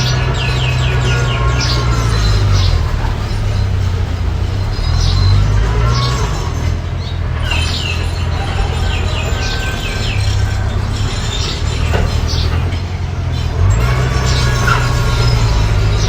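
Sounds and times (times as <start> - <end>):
bulldozer engine running: 0.0 - 16.0.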